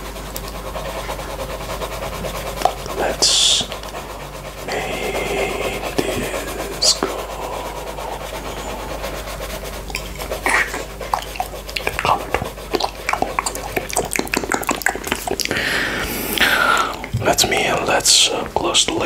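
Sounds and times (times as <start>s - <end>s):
pencil scratching on paper: 0.0s - 19.0s
wet licking mouth sounds: 0.0s - 19.0s.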